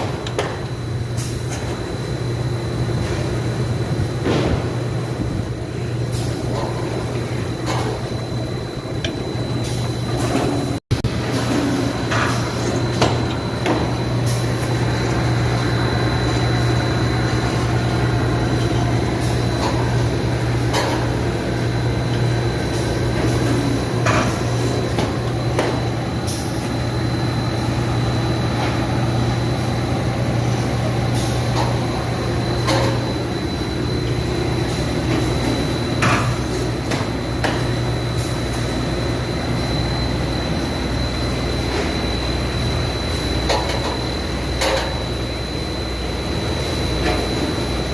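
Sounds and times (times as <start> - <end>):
high machine whine: 0.0 - 47.9
machine low hum: 0.0 - 47.9.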